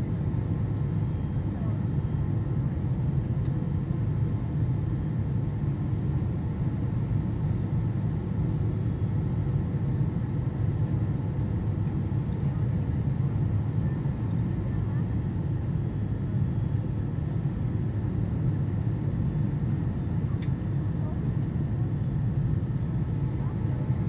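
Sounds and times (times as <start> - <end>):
airplane cabin low rumble: 0.0 - 24.0.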